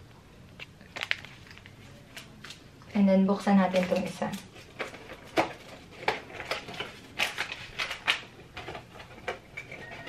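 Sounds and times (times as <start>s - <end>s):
packaging crinkling and clicking: 0.6s - 2.6s, 3.7s - 10.0s.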